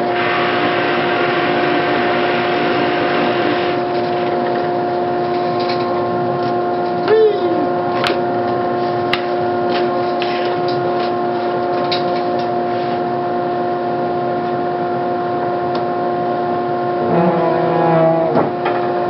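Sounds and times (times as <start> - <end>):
dust collector and drill press hum: 0.0 - 19.0.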